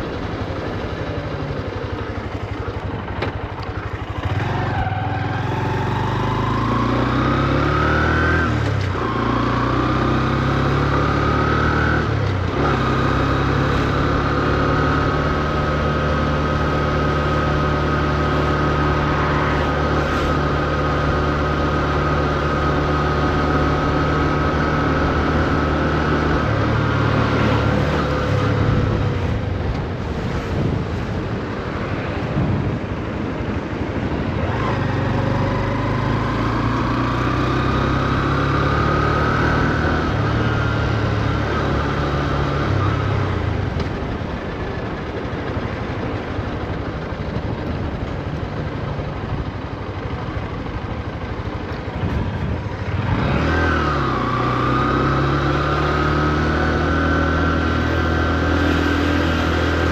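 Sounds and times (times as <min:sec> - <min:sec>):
motorcycle engine revving: 0:00.0 - 0:47.5, 0:48.3 - 0:59.9.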